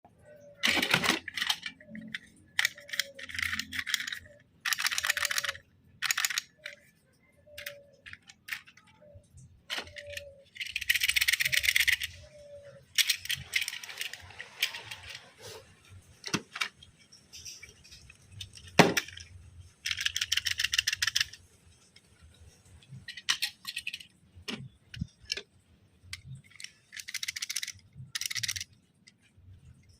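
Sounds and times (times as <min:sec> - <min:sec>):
toy parts rattling clicks: 0:00.2 - 0:29.9.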